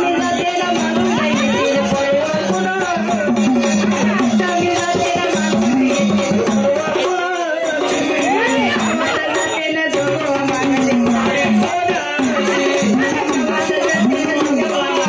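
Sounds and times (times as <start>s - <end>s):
drum: 0.0s - 15.0s
jangling rattle percussion: 0.0s - 15.0s.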